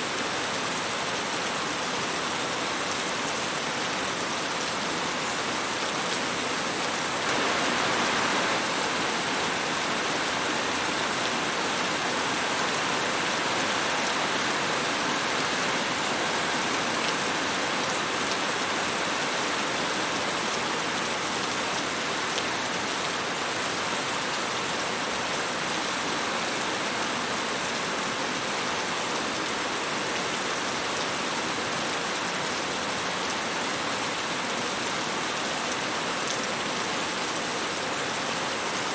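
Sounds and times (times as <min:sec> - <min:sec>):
rain falling on a surface: 0:00.0 - 0:38.9.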